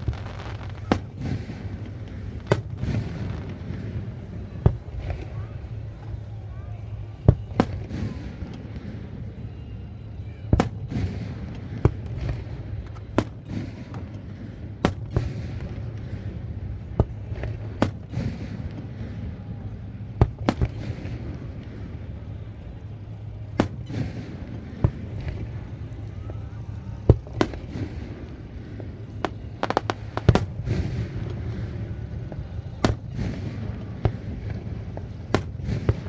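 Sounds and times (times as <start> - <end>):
fireworks booming: 0.0 - 36.0
steady low hum: 0.0 - 36.0.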